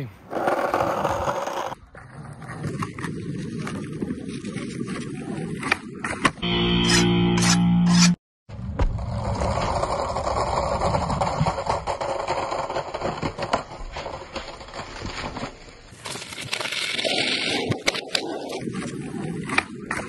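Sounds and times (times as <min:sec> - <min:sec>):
skateboard wheels on concrete: 0:00.0 - 0:06.4, 0:08.5 - 0:20.0
skateboard clicks and knocks: 0:00.2 - 0:06.4, 0:08.7 - 0:20.0.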